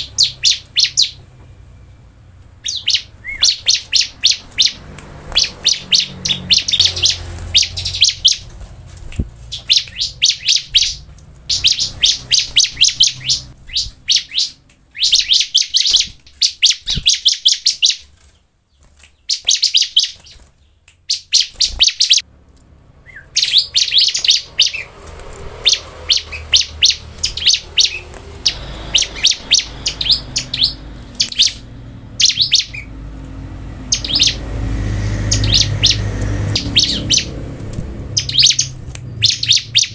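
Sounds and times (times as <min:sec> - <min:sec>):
bird singing sharp repeated notes: 0:00.0 - 0:22.3, 0:23.0 - 0:39.9.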